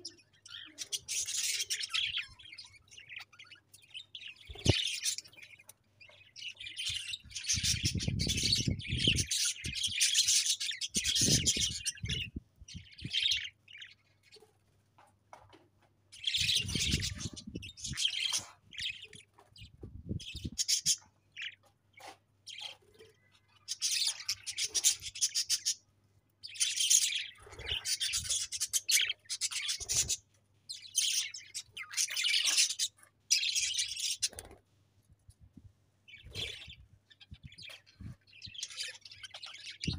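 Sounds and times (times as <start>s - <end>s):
budgerigars chirping and warbling: 0.0s - 14.5s, 16.1s - 34.6s, 36.1s - 39.9s.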